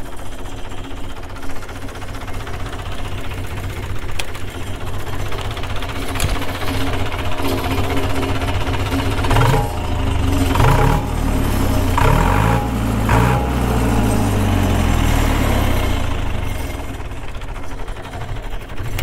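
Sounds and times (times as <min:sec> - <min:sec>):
diesel engine revving: 0:01.6 - 0:19.0.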